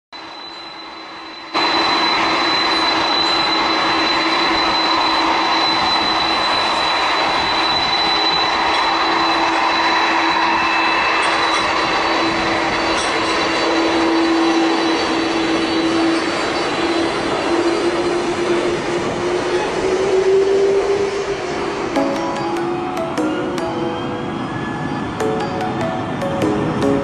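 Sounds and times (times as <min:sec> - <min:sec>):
airplane engines roaring: 0:00.2 - 0:27.0.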